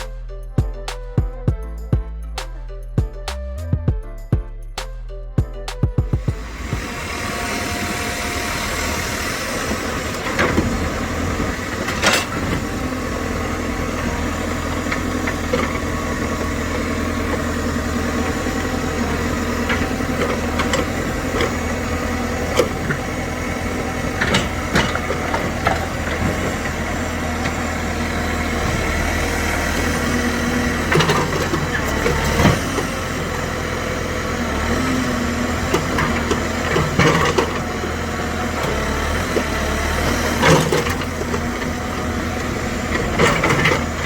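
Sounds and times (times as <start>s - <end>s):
heavy machine engine droning: 0.0s - 44.0s.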